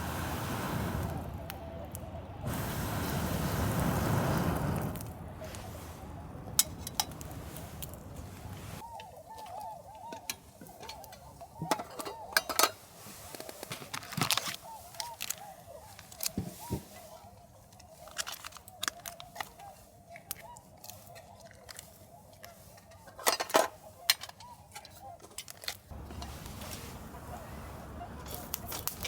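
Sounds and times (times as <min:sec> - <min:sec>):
swans honking: 0:00.0 - 0:29.0.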